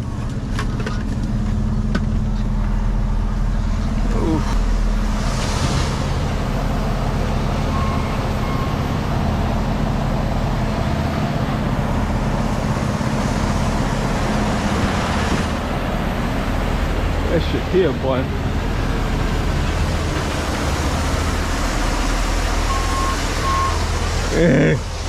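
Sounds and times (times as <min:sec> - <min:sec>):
road and tyre noise: 0:00.0 - 0:25.0
truck diesel engine running: 0:00.0 - 0:25.0.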